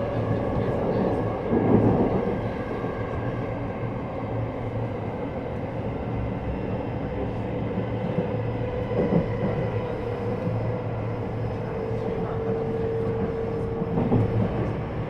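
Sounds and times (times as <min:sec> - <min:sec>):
train motors and wheels hum: 0:00.0 - 0:15.0.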